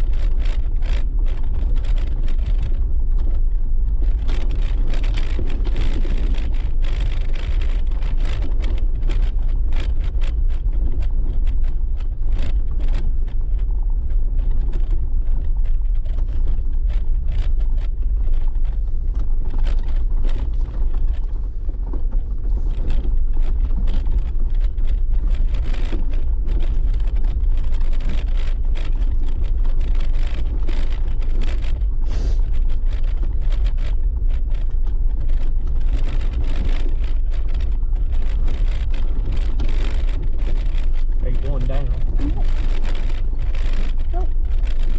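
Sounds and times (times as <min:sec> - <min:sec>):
knocks and rattles over stones: 0:00.0 - 0:44.9
vehicle rumbling on dirt track: 0:00.0 - 0:44.9.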